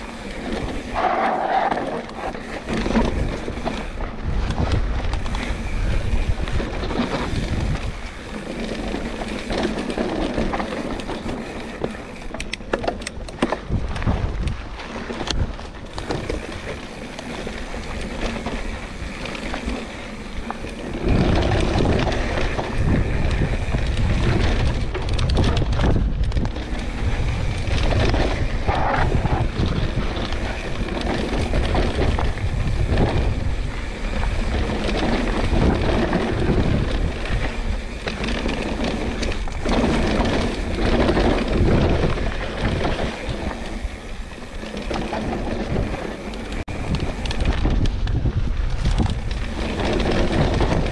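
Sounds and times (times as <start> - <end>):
bike tyres rolling on dirt: 0.0 - 50.9
wind buffeting microphone: 0.0 - 50.9.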